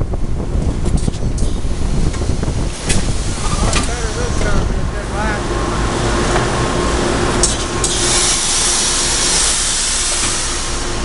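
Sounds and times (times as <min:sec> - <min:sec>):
machinery low rumble and hum: 0:00.0 - 0:11.0
loud steady hiss: 0:01.0 - 0:11.0.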